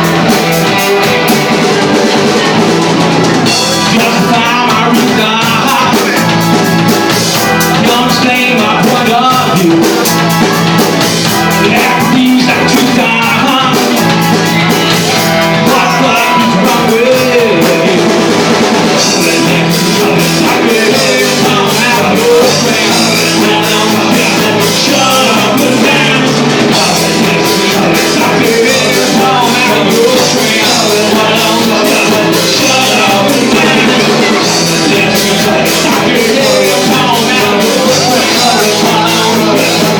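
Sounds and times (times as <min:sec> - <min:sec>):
drum kit: 0:00.0 - 0:39.9
electric guitars: 0:00.0 - 0:39.9
person singing: 0:00.0 - 0:39.9.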